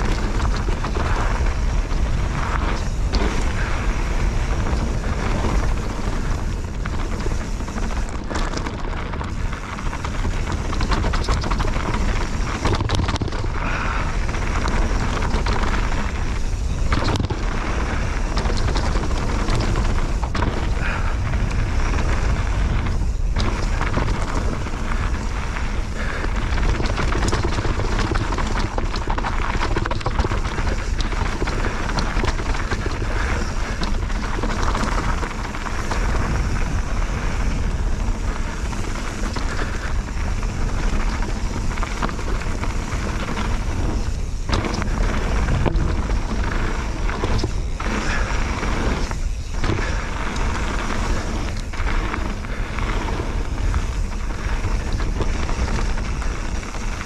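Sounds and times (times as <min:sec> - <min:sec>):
bike clattering and rattling: 0:00.0 - 0:57.0
bike tyre noise: 0:00.0 - 0:57.0
wind buffeting microphone: 0:00.0 - 0:57.0.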